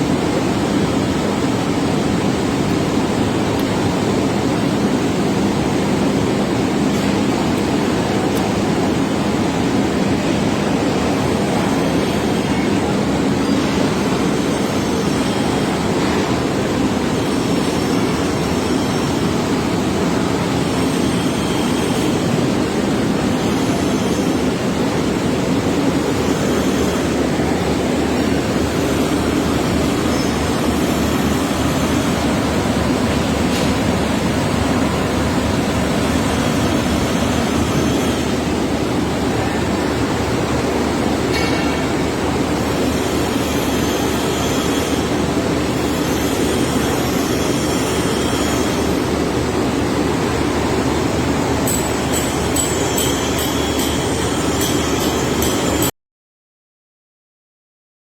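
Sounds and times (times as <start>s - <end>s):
rush of cooling air: 0.0s - 55.9s.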